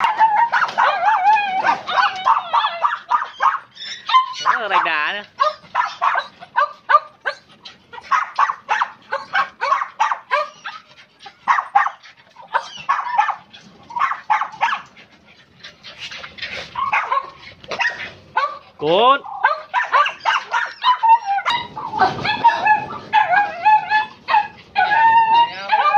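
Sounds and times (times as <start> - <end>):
dogs barking: 0.0 - 25.9.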